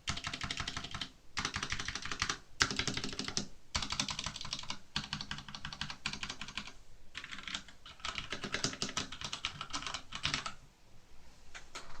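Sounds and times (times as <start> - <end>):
mechanical keyboard typing: 0.1 - 10.6.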